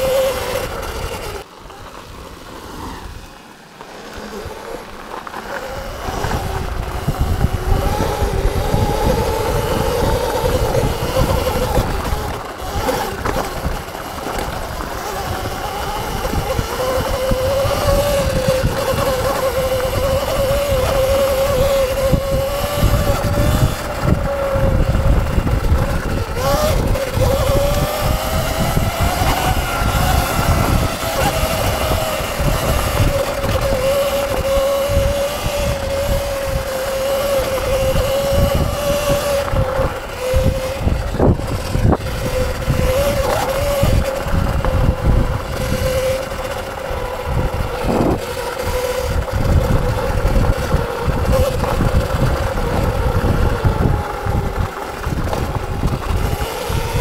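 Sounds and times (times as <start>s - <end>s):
electric motor whine: 0.0s - 57.0s
low rumbling noise: 0.0s - 57.0s.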